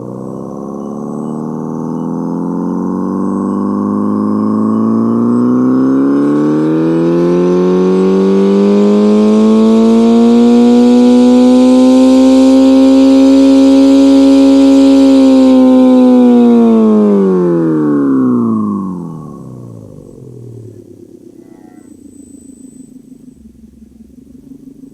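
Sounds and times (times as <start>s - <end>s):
synthesized engine note: 0.0s - 24.9s.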